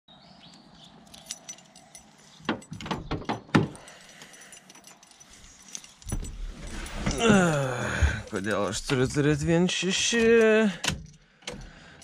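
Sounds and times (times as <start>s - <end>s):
car keys jingling: 0.5s - 12.0s.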